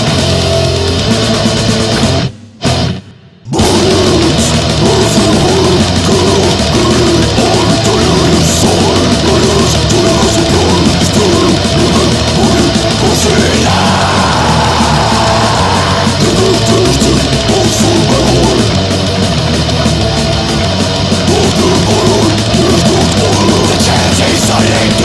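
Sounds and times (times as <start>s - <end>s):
death metal band playing: 0.0s - 25.0s.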